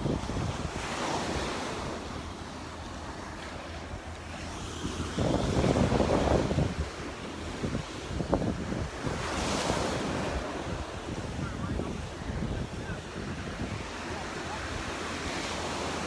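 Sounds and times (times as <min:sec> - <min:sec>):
waves breaking on beach: 0:00.0 - 0:16.0
wind buffeting microphone: 0:00.0 - 0:16.0.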